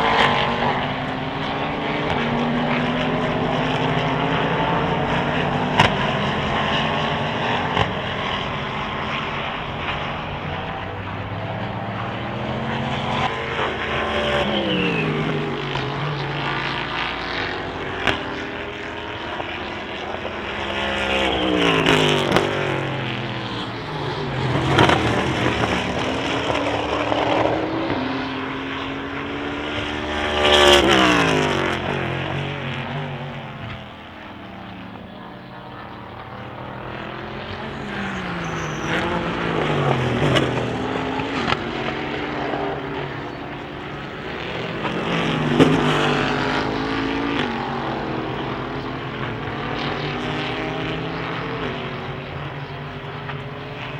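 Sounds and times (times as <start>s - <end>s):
race cars passing at speed: 0.0s - 53.9s.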